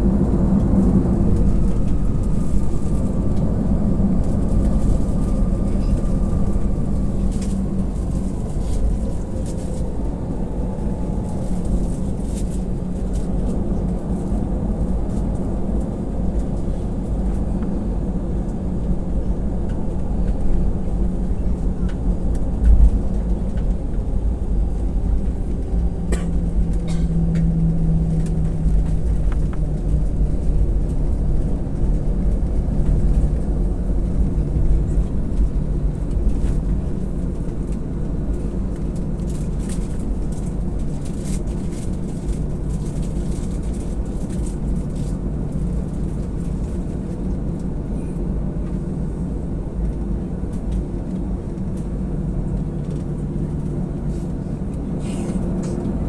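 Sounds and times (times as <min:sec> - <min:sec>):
jet engines rumbling on takeoff: 0:00.0 - 0:56.0.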